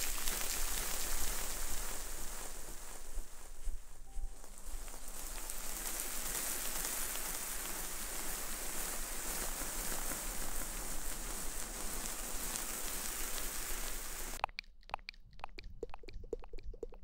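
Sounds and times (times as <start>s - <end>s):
crackling rustle against microphone: 0.0s - 14.4s.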